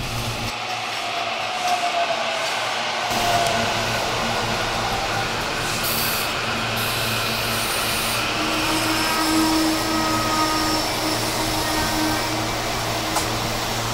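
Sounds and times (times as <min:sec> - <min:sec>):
electric train whine: 0:00.0 - 0:13.9
train wheels rumbling on rails: 0:00.0 - 0:13.9.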